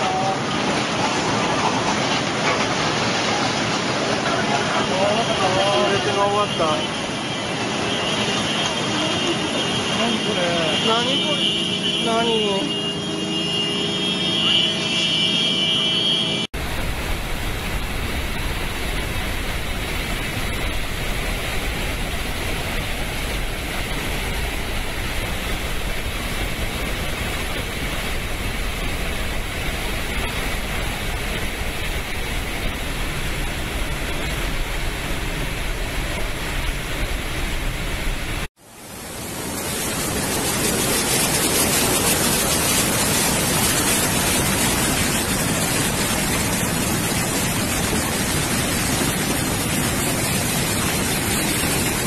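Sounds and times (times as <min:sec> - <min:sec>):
dam spillway water roaring: 0:00.0 - 0:52.0.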